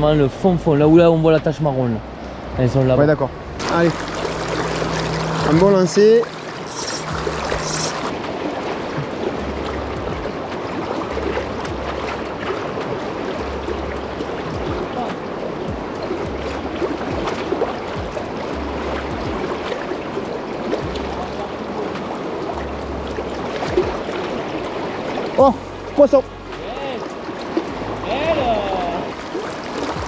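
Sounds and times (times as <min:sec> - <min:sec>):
river rushing over rocks: 0:03.5 - 0:30.0.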